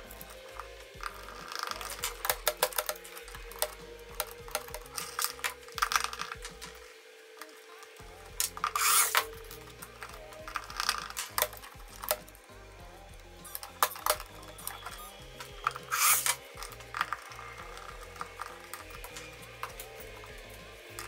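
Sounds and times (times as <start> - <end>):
hand tools clicking and knocking: 0.0 - 7.6, 8.2 - 12.5, 13.1 - 21.0
background music: 0.0 - 21.0.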